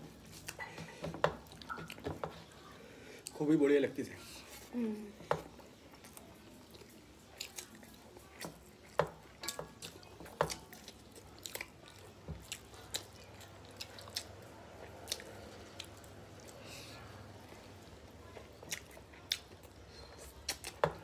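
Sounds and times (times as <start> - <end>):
wet chewing and mouth smacks: 0.2 - 2.2, 5.4 - 17.6, 18.2 - 21.0.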